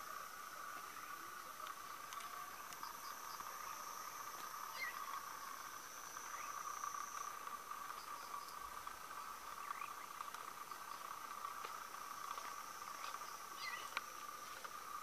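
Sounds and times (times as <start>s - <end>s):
high-pitched insect trill: 0.0s - 15.0s
insects and frogs trilling: 0.0s - 15.0s.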